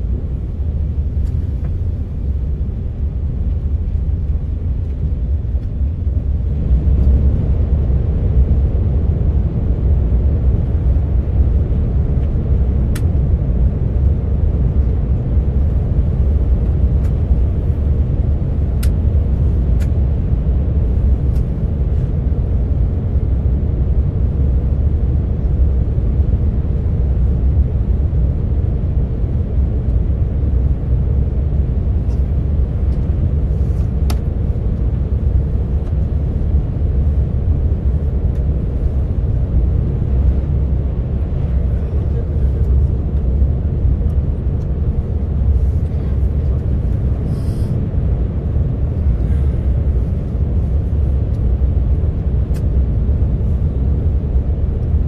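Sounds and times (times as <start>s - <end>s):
train rumbling inside carriage: 0.0s - 55.0s.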